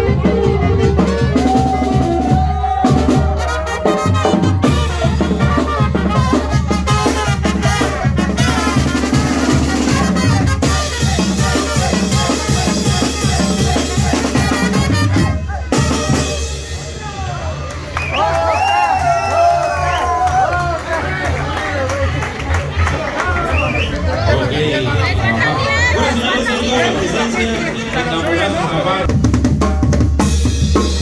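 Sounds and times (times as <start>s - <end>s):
latin dance music: 0.0s - 17.0s, 20.1s - 29.1s.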